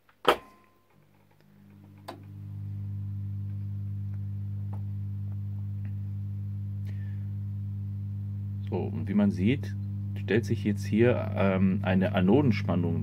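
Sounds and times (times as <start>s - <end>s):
low mains hum from radio: 0.3s - 13.0s.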